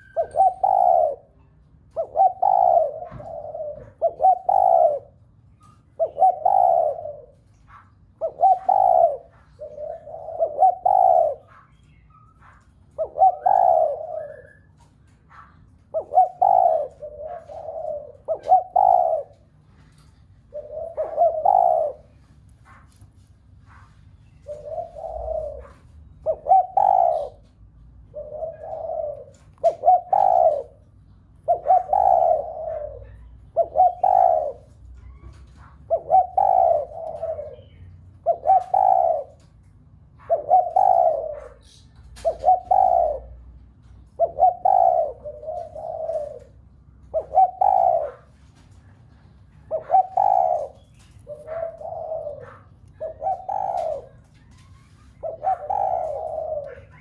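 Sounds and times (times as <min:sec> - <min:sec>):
dove cooing: 0:00.0 - 0:22.8, 0:24.3 - 0:57.0.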